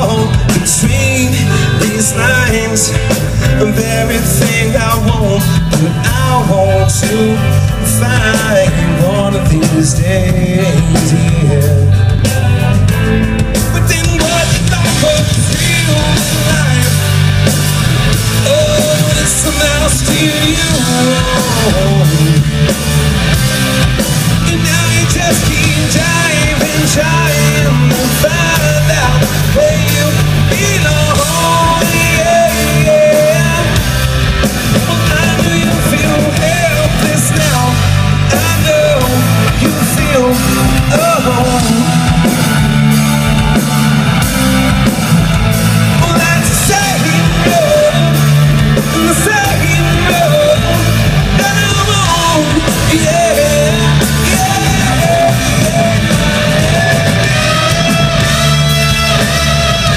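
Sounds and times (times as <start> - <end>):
rock band playing loud: 0.0 - 59.9
lead guitar bending pitch: 10.4 - 59.9.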